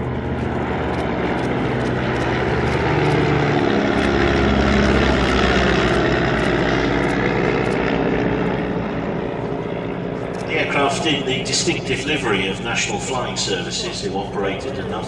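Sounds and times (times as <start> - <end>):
propeller aircraft flying past: 0.0 - 15.0.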